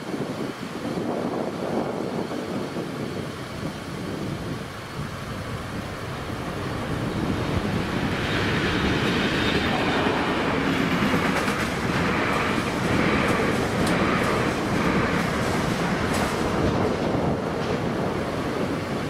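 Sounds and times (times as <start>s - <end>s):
train passing on rails: 0.0s - 19.0s.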